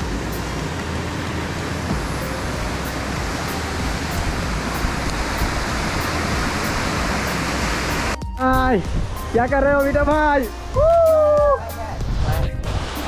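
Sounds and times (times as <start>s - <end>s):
waterfall rushing: 0.0s - 8.2s, 10.4s - 13.0s.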